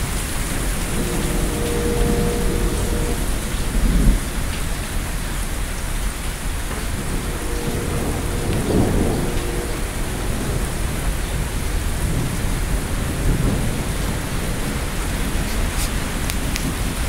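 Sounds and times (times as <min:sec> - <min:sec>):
low rumble of thunder: 0:00.0 - 0:17.0
steady rain falling: 0:00.0 - 0:17.0.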